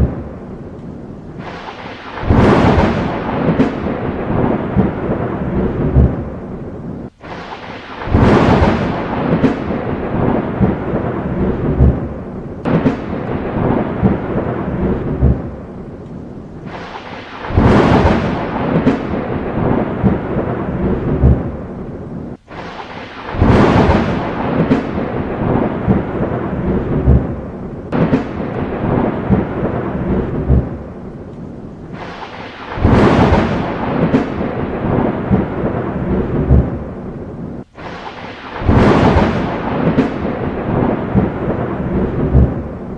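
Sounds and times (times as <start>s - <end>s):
steady rain: 0.0s - 42.9s
thunder claps and rumbles: 0.0s - 42.9s.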